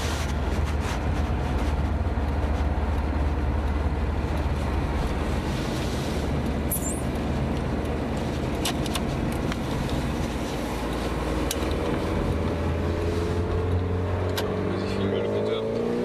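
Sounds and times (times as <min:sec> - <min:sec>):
car engine running: 0:00.0 - 0:16.0
road noise: 0:00.0 - 0:16.0.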